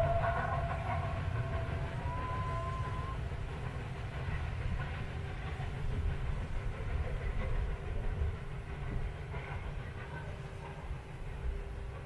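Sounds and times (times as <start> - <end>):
steam train rumbling on rails: 0.0 - 12.0.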